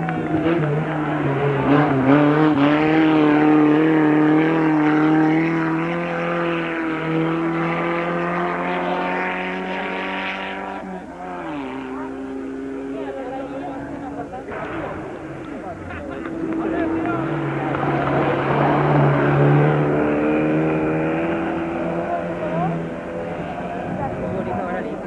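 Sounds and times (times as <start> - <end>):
racing car engine: 0.0 - 25.0.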